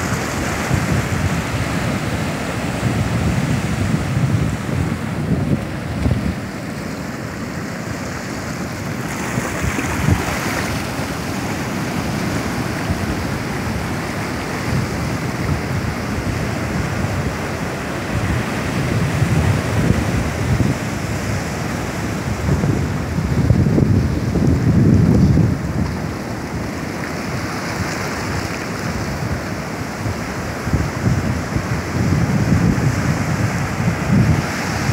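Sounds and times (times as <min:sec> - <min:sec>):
surf breaking on beach: 0:00.0 - 0:34.9
wind buffeting microphone: 0:00.0 - 0:34.9.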